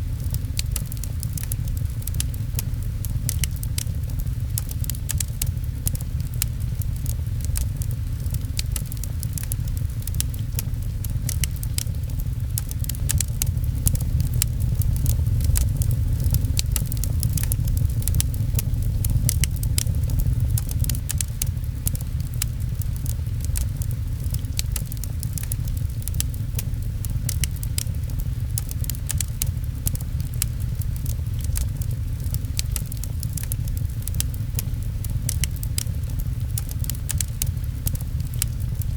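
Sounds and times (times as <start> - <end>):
rain falling: 0.0 - 38.9
steady low rumble: 0.0 - 38.9
wood fire crackling and popping: 0.0 - 38.9.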